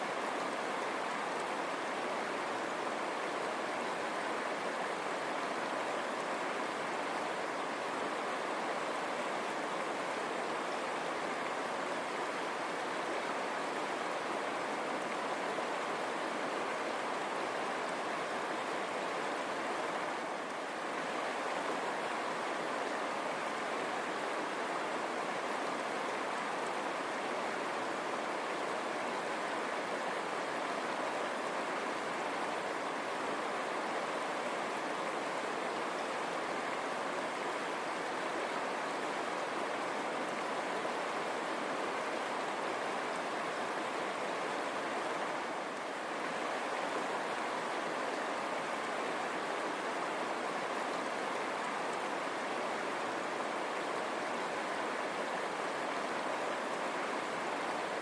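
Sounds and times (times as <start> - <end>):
river water running over stones: 0.0 - 58.0.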